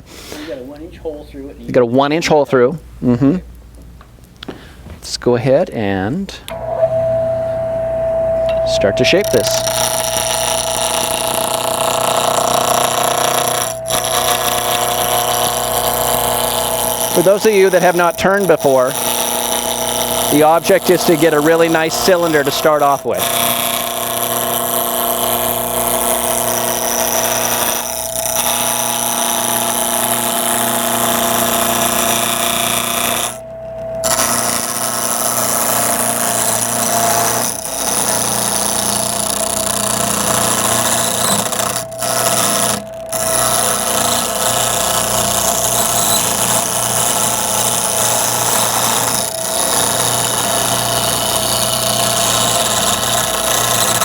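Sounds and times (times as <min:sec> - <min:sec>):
lathe motor whir: 0:06.4 - 0:54.0
turning tool scraping wood: 0:08.8 - 0:54.0.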